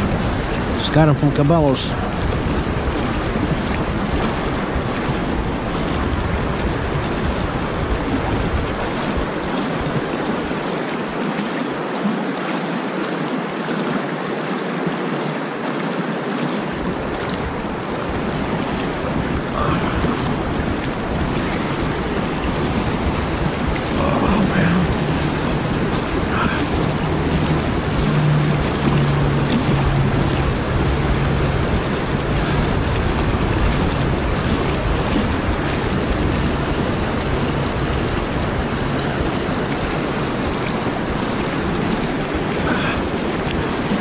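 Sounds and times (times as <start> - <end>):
water pouring over spillway: 0.0 - 44.0.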